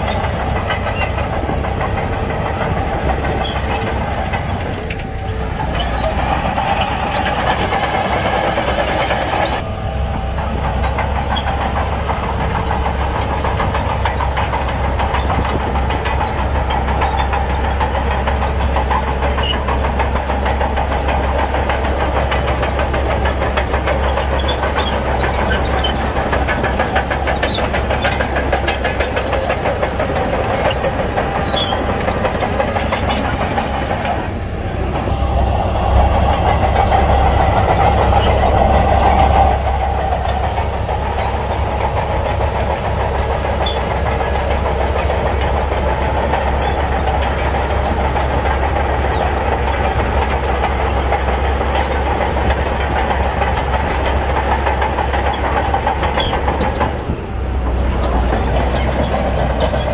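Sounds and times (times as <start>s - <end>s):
bulldozer diesel engine under load: 0.0s - 59.9s
steel tracks clattering: 0.0s - 59.9s.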